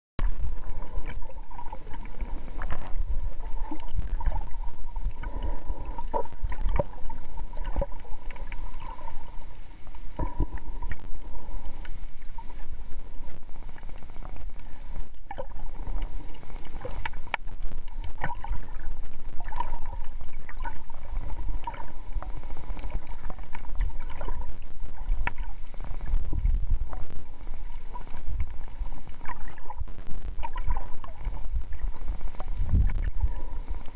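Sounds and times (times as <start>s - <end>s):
clicks and crackles: 0.2s - 33.9s
faint steady hum: 0.2s - 33.9s
underwater low rumble: 0.2s - 33.9s.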